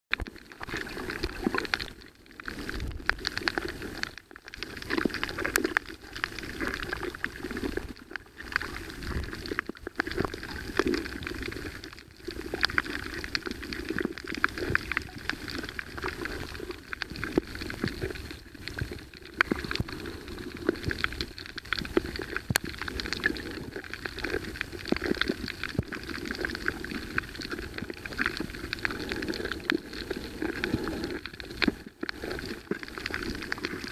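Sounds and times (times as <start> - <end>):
underwater bubbling and crackling: 0.1 - 33.9.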